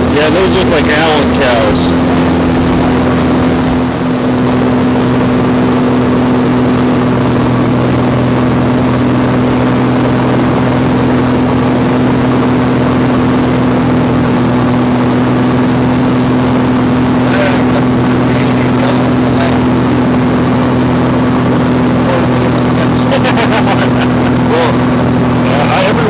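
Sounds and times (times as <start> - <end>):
small airplane engine droning: 0.0 - 26.0.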